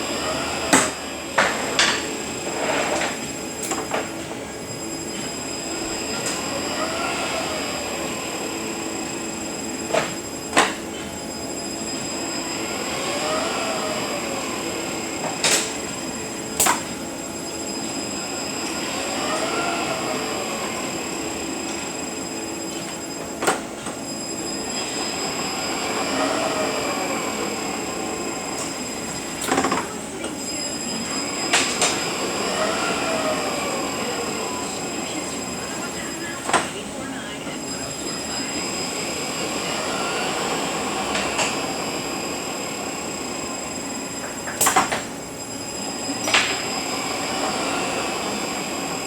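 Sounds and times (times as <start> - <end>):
transmission gear whine: 0.0 - 49.0.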